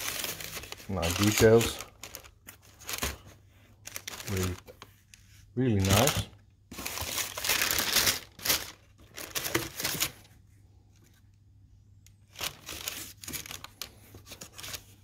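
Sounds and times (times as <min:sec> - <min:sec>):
tissue paper rustling: 0:00.0 - 0:10.2, 0:12.4 - 0:15.0.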